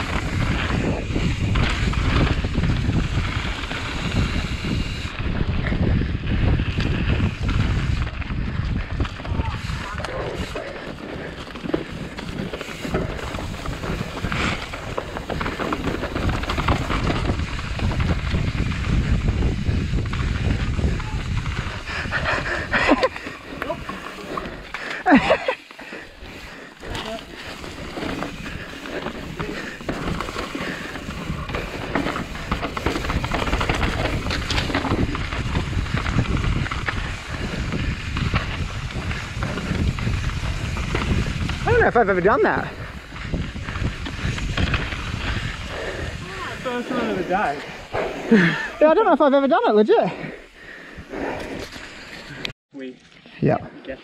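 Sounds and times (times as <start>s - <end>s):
bike chain and frame clattering: 0.0s - 49.0s
wind buffeting microphone: 0.0s - 49.2s
tyres rolling over dirt: 6.8s - 50.6s.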